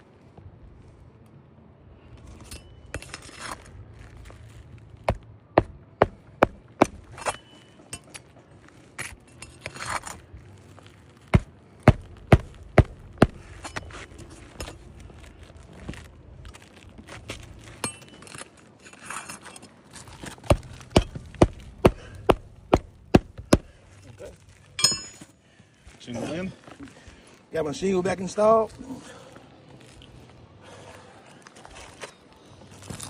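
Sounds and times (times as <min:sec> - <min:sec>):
shingle rustling and scraping: 0:02.1 - 0:05.2, 0:06.4 - 0:30.4.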